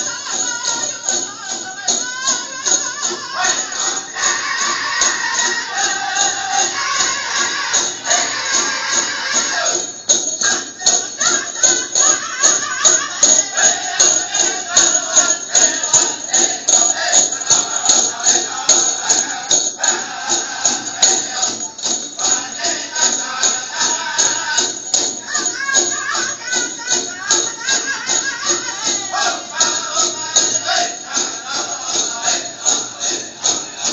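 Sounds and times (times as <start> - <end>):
drum beating steadily: 0.0 - 33.9
jingling in time: 0.0 - 33.9
people singing: 0.0 - 33.9.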